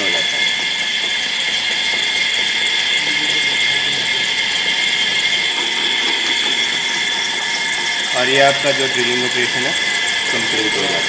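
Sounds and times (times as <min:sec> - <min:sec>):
drill whine: 0:00.0 - 0:11.0
metal lathe running: 0:00.0 - 0:11.0.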